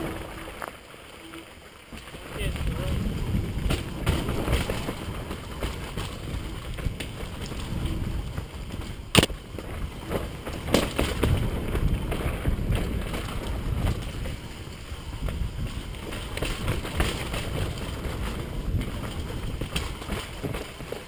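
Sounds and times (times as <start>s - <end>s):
tyres rumbling over dirt: 0.0s - 0.7s, 1.8s - 21.0s
wind on microphone: 2.2s - 21.0s.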